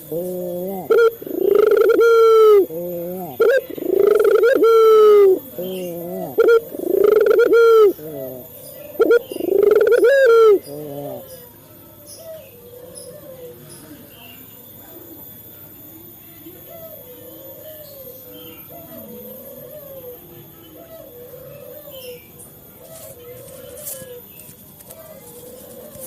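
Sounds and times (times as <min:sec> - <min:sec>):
dove cooing: 0:00.0 - 0:13.7, 0:16.5 - 0:26.0.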